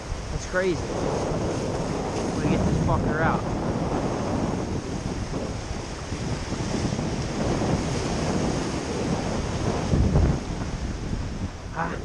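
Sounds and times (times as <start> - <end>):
surf breaking against rocks: 0.0 - 12.0
wind buffeting microphone: 0.0 - 12.0.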